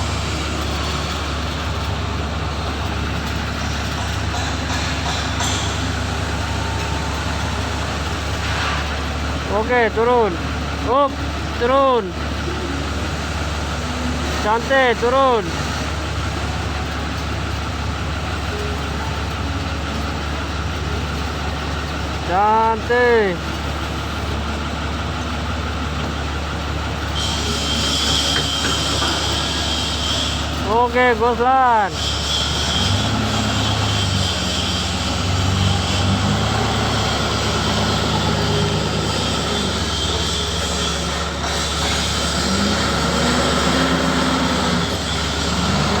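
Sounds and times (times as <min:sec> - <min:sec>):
engine humming steadily: 0:00.0 - 0:46.0.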